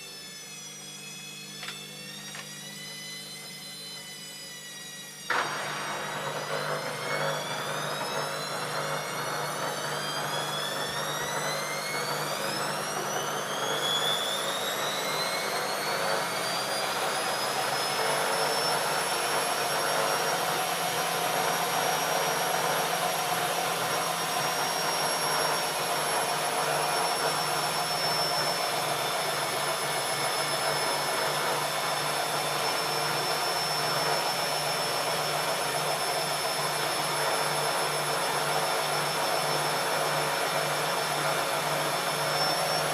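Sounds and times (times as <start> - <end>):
washing machine motor whine: 0.0 - 42.9.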